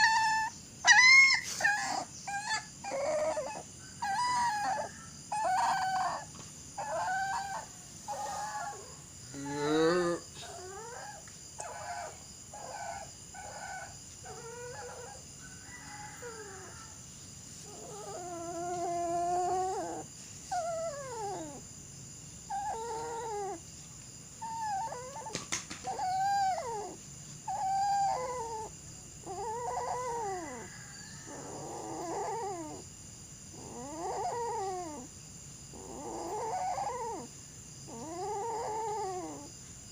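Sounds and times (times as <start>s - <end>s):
dog whining and howling: 0.0s - 17.0s, 17.6s - 21.7s, 22.4s - 23.6s, 24.4s - 32.9s, 33.5s - 39.6s.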